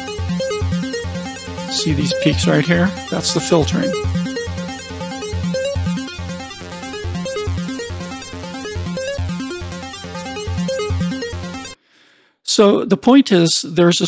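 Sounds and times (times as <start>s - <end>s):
bass note: 0.0s - 11.7s
electronic synth loop: 0.0s - 11.8s
stepping synth melody: 0.0s - 11.8s.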